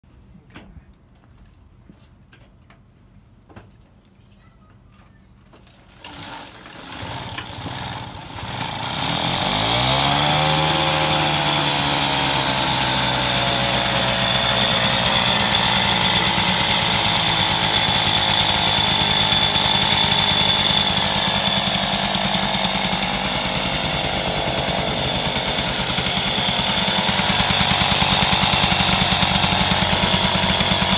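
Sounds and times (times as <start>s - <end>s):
moped engine starting and running: 5.6s - 30.9s.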